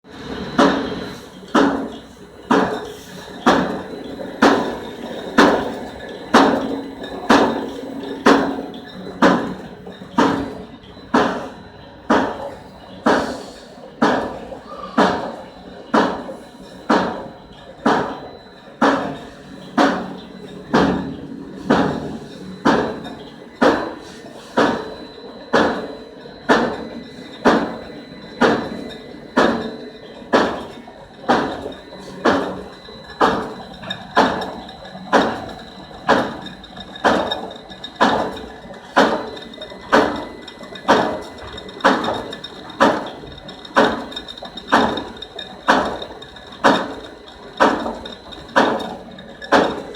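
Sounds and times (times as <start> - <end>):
faint machine whine: 0.0 - 49.9
cutting machine knocking: 0.5 - 24.0, 24.6 - 49.9.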